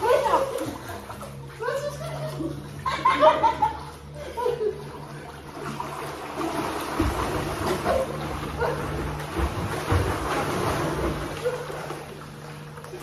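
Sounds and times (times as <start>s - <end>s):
swimmers splashing in pool water: 0.0s - 13.0s.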